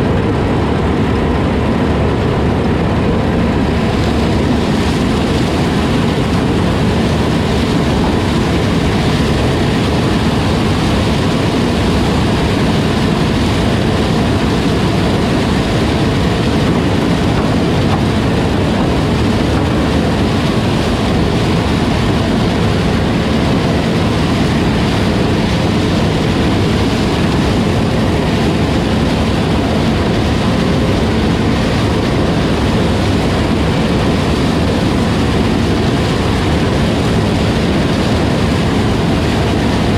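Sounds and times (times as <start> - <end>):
farm machinery diesel drone: 0.0 - 39.9.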